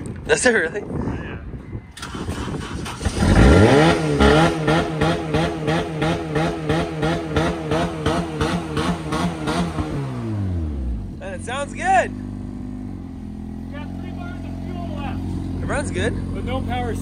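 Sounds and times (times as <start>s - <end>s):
car engine starting and idling: 1.9s - 17.0s.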